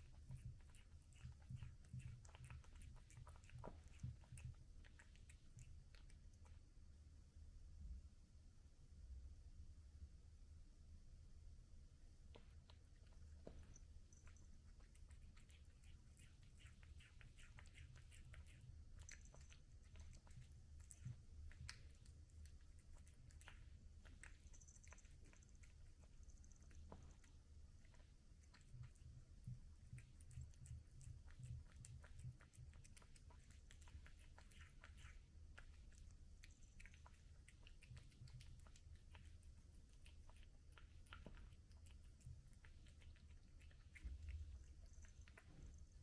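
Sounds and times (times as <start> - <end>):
cat chewing food: 0.0 - 6.7, 12.2 - 46.0
low steady hum: 0.0 - 46.0.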